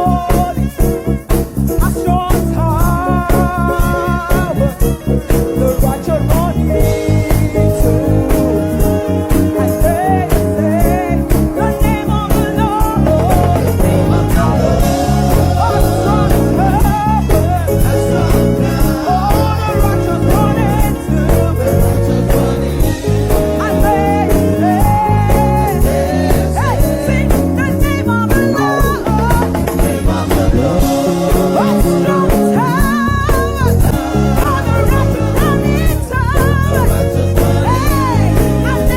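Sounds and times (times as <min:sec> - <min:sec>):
person singing: 0:00.0 - 0:01.0, 0:01.7 - 0:38.9
gospel band playing upbeat song: 0:00.0 - 0:38.9.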